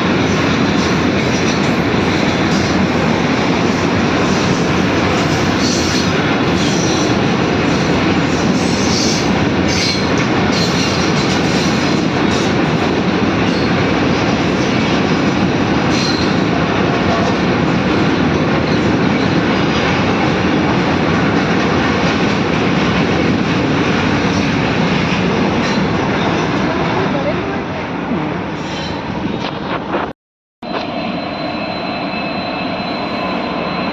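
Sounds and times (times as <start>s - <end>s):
train wheels on rails: 0.0s - 27.4s.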